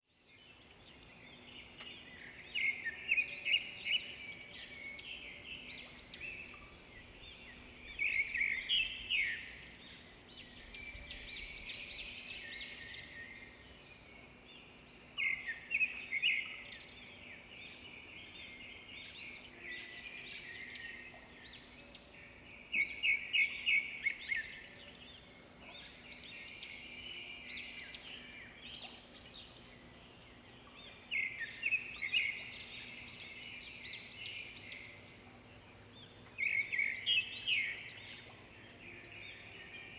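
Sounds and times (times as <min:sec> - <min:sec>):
small birds chirping: 0:00.1 - 0:39.9.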